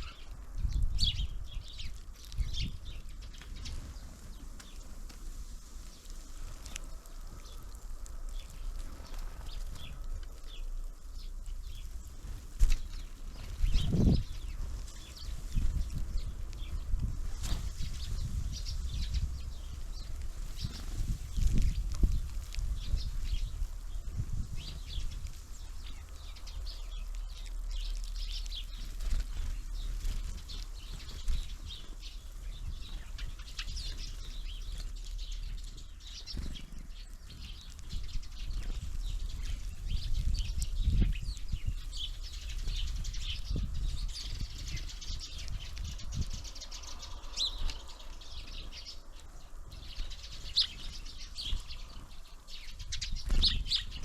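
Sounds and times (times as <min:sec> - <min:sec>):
birds chirping: 0:00.0 - 0:54.0
bird wingbeats fluttering: 0:00.1 - 0:48.9, 0:49.6 - 0:54.0.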